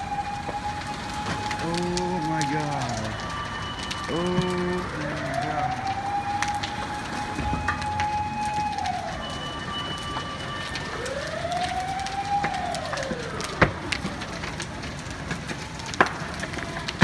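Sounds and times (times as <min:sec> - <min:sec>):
burning building crackling: 0:00.0 - 0:17.0
emergency siren wailing: 0:00.0 - 0:17.0
sharp pops of fire: 0:00.0 - 0:17.0.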